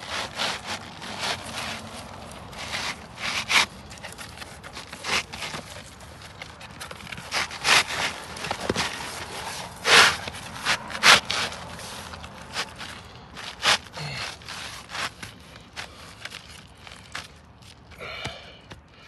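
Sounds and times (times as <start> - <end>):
shingles scraping together: 0.0 - 17.4.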